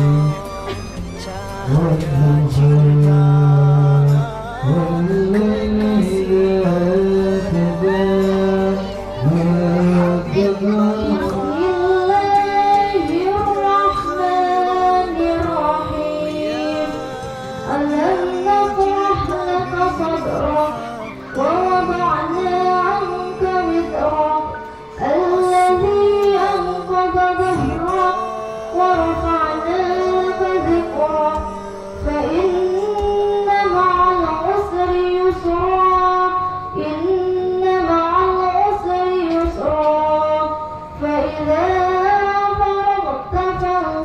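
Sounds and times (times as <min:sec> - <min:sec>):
woman chanting melodic recitation: 0:01.2 - 0:44.0.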